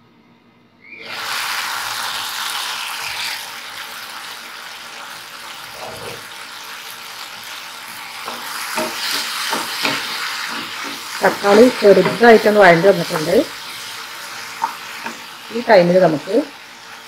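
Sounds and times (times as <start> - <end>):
vegetables sizzling in pan: 1.0 - 17.0.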